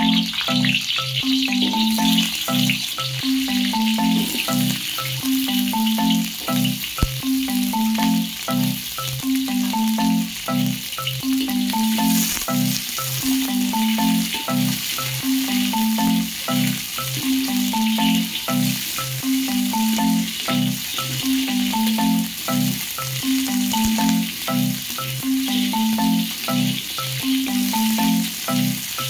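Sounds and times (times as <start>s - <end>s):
marimba-like background music: 0.0s - 29.0s
onions frying in oil: 0.0s - 29.0s.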